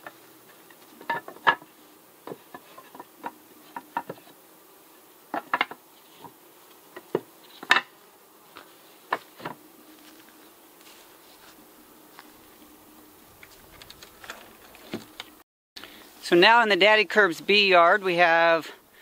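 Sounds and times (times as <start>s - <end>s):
bees humming: 0.0s - 19.0s.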